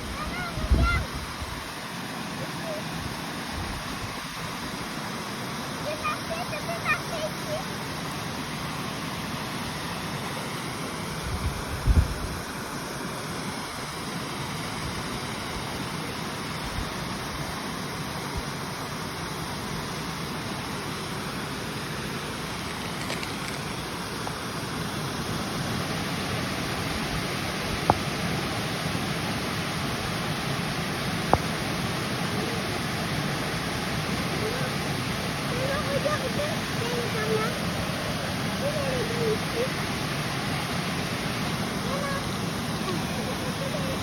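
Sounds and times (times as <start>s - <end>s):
flowing river water: 0.0s - 44.0s.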